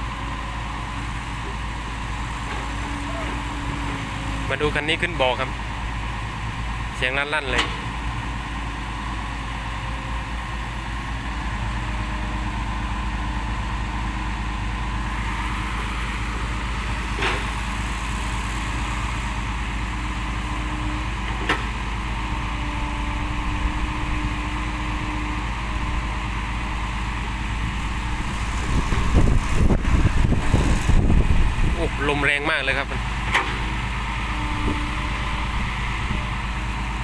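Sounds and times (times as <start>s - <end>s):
diesel truck engine under load: 0.0s - 37.0s.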